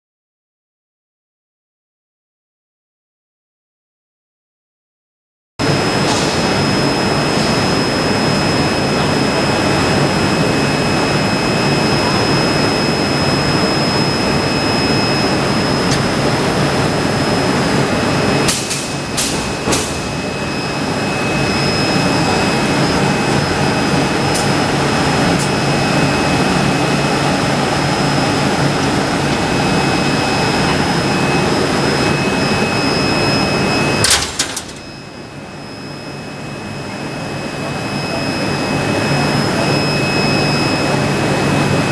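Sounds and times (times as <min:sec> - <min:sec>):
high-pitched machine whine: 0:05.6 - 0:41.9
loud even machine noise: 0:05.6 - 0:41.9.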